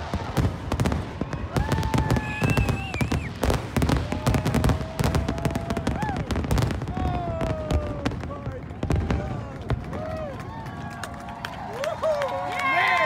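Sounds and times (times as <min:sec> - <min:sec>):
fireworks bursts and crackles: 0:00.0 - 0:13.0.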